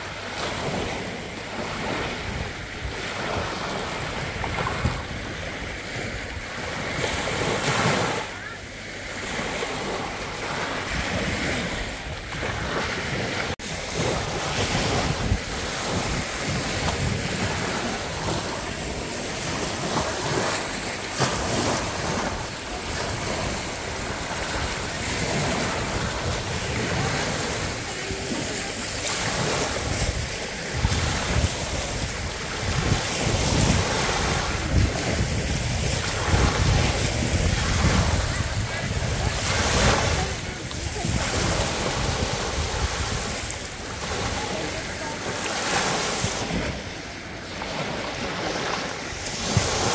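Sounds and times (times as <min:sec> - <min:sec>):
wind buffeting microphone: 0:00.0 - 0:08.2, 0:09.2 - 0:49.9
small waves breaking on beach: 0:00.0 - 0:49.9.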